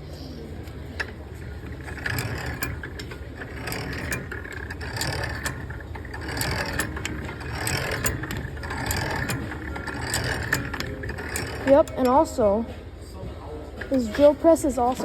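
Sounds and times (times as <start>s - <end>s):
feed pawl clicking: 0.5s - 12.5s, 13.8s - 15.0s
drill press gears rattling: 0.5s - 12.7s, 13.8s - 15.0s.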